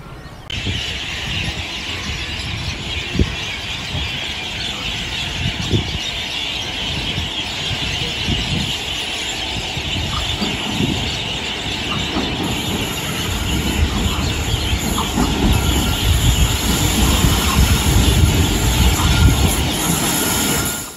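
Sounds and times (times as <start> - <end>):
train rumbling on rails: 0.0 - 20.9.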